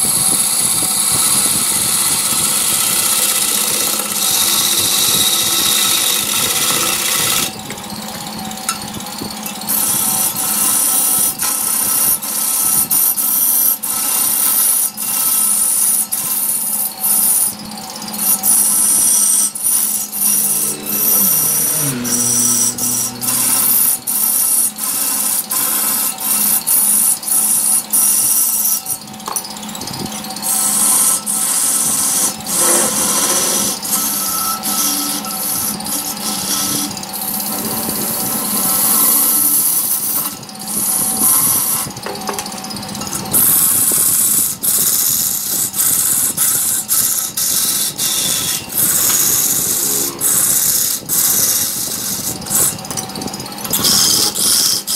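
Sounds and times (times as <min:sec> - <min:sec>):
lathe tool cutting hiss: 0:00.0 - 0:54.9
wood lathe hum: 0:00.0 - 0:54.9.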